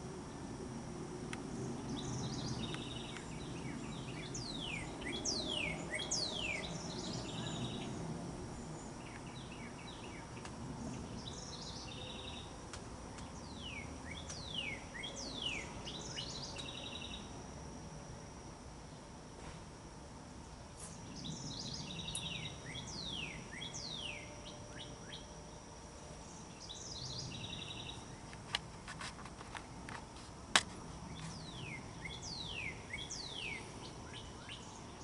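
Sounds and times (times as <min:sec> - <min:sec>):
songbird singing: 0:01.3 - 0:19.2, 0:20.4 - 0:35.0.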